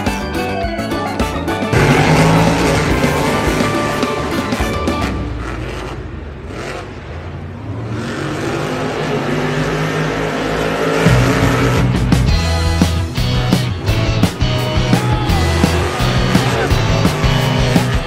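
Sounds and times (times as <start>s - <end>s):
monster truck engines revving: 1.5s - 18.0s.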